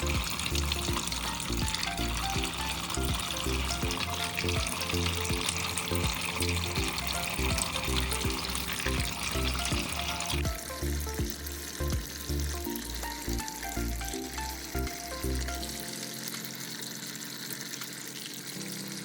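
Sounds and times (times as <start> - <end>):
background music with bass beat: 0.0 - 15.9
water trickling in fountain: 0.0 - 19.0.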